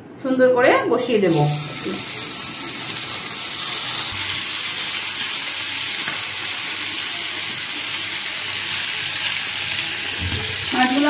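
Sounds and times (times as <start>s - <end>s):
fish sizzling in oil: 1.4s - 11.0s.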